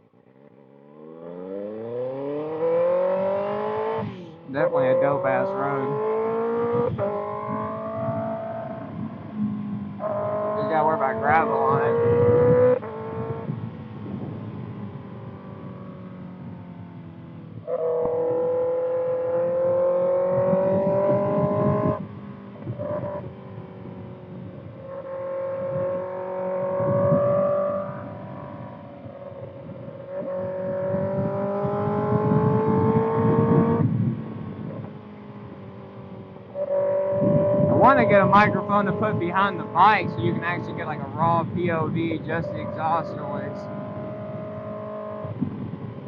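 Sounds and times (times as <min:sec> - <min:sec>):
motorcycle engine revving: 0:00.0 - 0:46.0
wind noise: 0:03.1 - 0:18.3, 0:19.0 - 0:35.7, 0:36.6 - 0:46.0.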